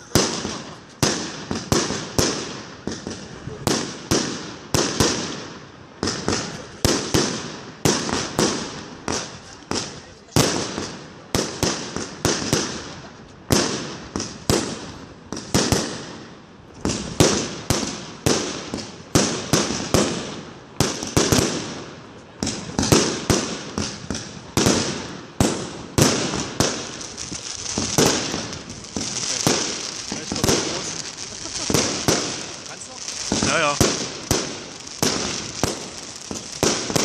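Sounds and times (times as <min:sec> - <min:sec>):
fireworks bangs and bursts: 0:00.0 - 0:37.0.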